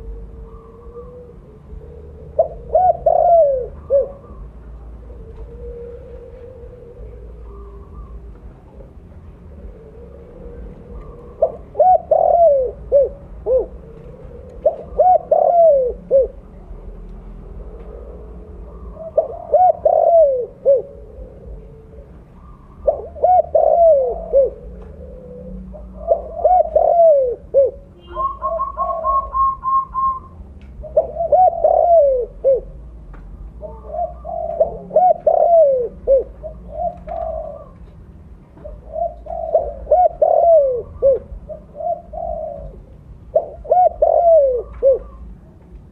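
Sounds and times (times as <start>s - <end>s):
dove cooing: 0.0s - 32.9s, 33.5s - 45.6s.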